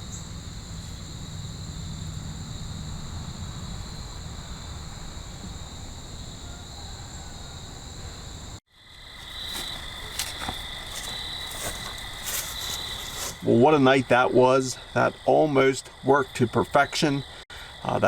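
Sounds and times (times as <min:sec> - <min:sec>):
crickets and insects trilling: 0:00.0 - 0:18.0.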